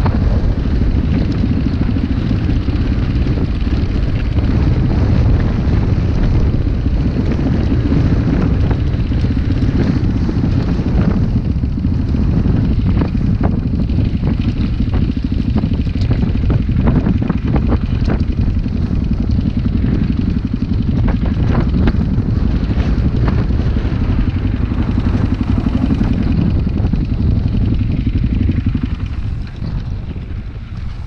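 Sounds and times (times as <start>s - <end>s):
dirt bike engines rumbling: 0.0s - 31.0s.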